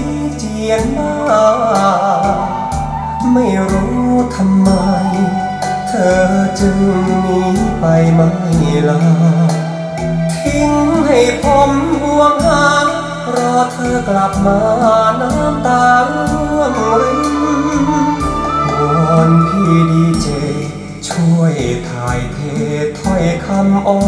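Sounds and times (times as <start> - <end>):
song over speakers: 0.0 - 24.0.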